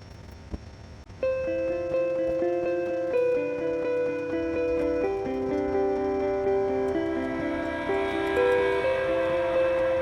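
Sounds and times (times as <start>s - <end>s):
instrumental background music: 1.2s - 10.0s.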